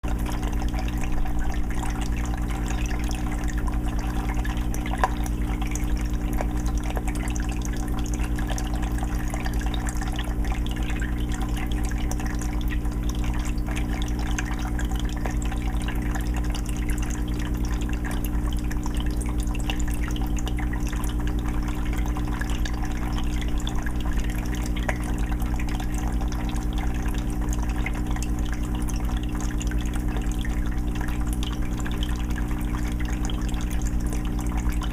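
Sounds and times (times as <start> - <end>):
filter motor humming: 0.0 - 34.9
water trickling and dripping: 0.0 - 34.9.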